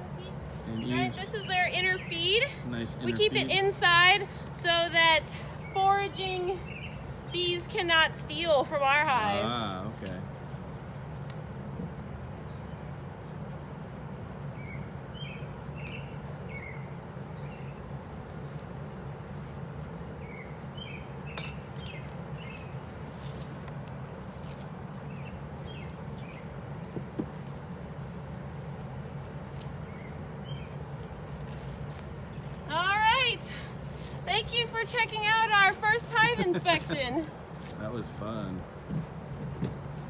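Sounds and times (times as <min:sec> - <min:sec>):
small birds chirping: 0:00.0 - 0:04.4, 0:05.5 - 0:07.6, 0:14.5 - 0:40.0
low outdoor drone: 0:00.0 - 0:40.0.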